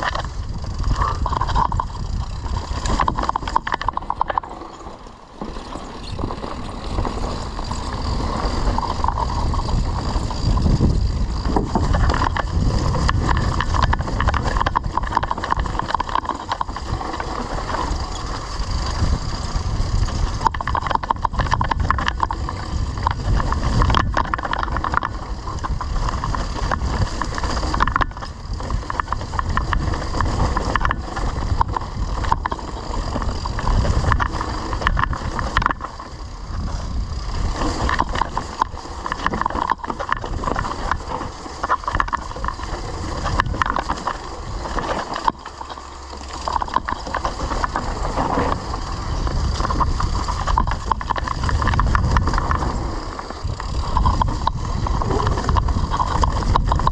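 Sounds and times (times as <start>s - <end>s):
wind buffeting microphone: 0.0s - 4.4s, 5.8s - 56.9s
bike tyres rumbling on dirt trail: 0.0s - 56.9s.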